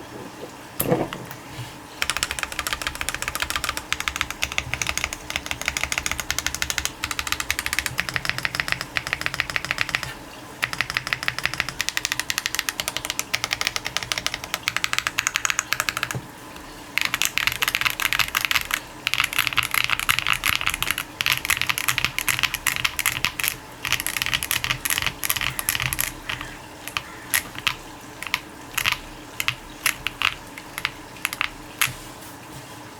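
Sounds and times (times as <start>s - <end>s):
mechanical keyboard typing: 2.0s - 32.0s.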